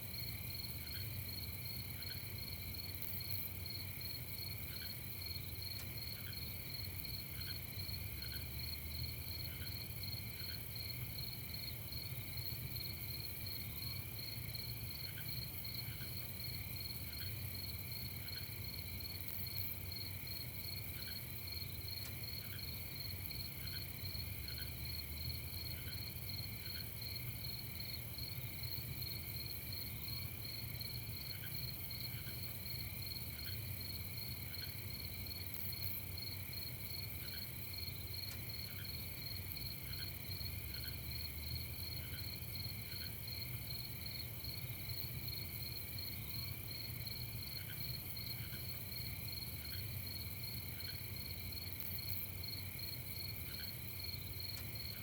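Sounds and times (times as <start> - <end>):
crickets trilling: 0.1 - 55.0
insect chirping: 0.1 - 55.0.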